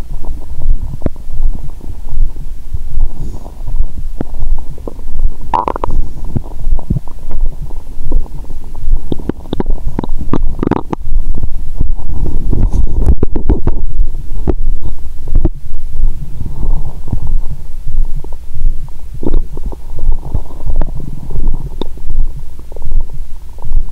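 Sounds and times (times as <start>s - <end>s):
stomach gurgling and rumbling: 0.0s - 23.9s.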